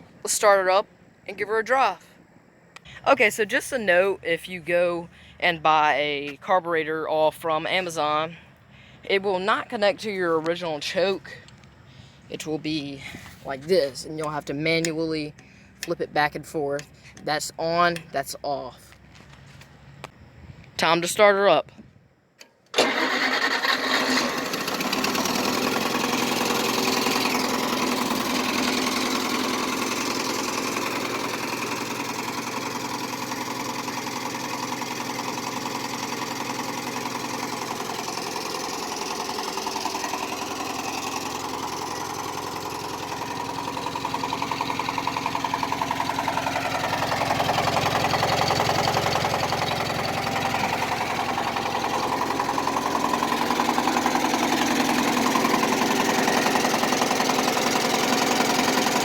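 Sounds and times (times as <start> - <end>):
tractor engine running: 0.0 - 21.2, 22.4 - 59.0.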